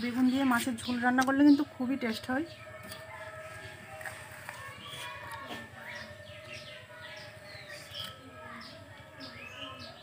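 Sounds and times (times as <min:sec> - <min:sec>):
bird chirp: 0:00.0 - 0:10.0.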